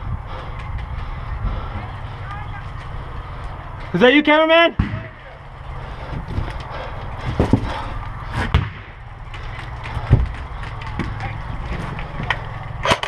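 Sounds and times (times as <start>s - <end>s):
steady low rumble: 0.0s - 4.0s, 4.7s - 13.0s.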